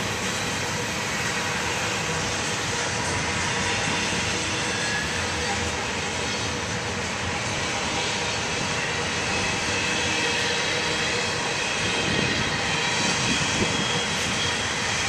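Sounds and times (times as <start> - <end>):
freight train wheels roaring: 0.0 - 15.0.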